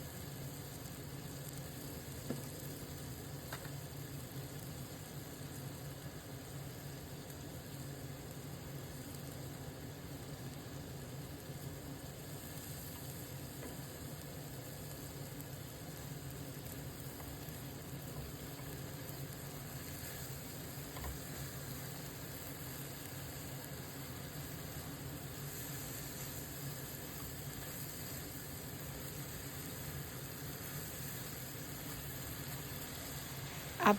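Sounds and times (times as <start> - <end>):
meat and vegetables sizzling in pan: 0.0 - 33.9.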